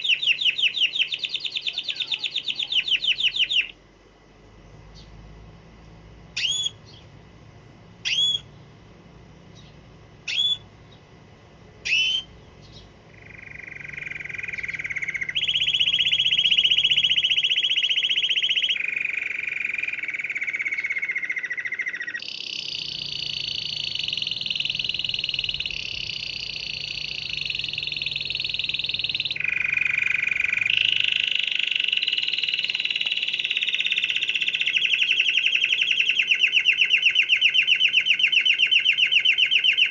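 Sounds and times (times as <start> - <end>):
canary singing trills: 0.0 - 3.8, 4.7 - 39.9.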